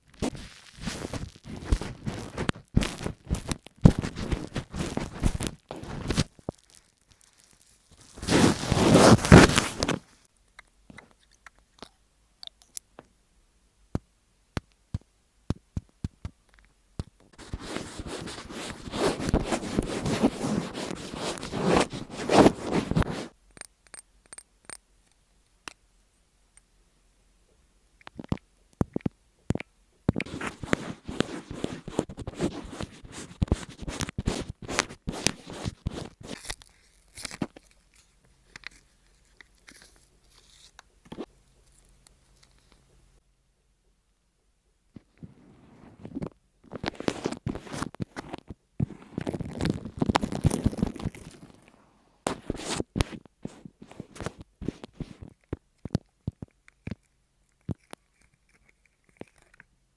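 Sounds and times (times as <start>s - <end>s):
crunching and scraping: 0.0s - 12.0s, 15.8s - 25.2s, 28.0s - 43.0s, 45.0s - 59.8s.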